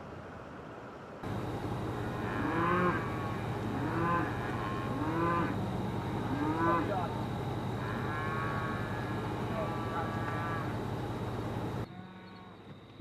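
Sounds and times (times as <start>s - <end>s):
low hum: 1.2s - 13.0s
animal calls: 1.3s - 12.7s.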